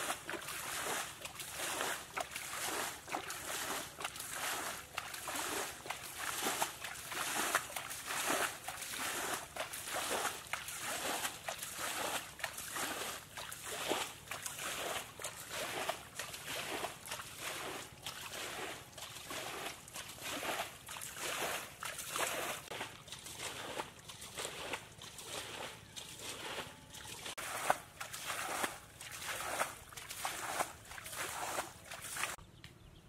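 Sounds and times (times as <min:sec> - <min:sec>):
muddy water splashing: 0:00.0 - 0:32.6.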